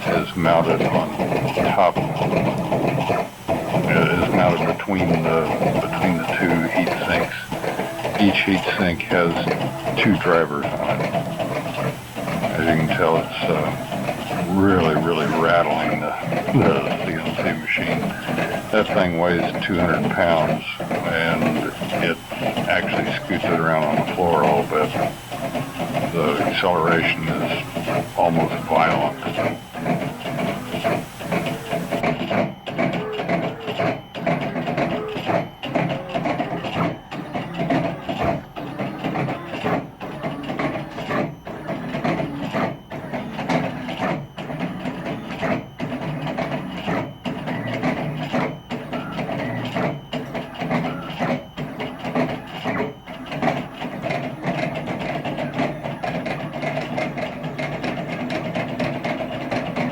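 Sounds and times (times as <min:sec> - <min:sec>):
stepper motors whining: 0:00.0 - 0:54.0.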